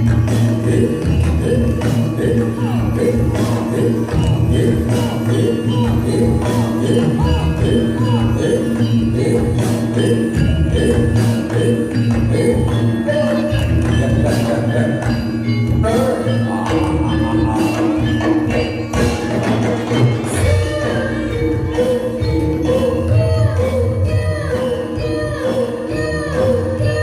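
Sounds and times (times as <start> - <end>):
jingling bells: 0.0 - 27.0
ringing metallophones and gongs: 0.0 - 27.0.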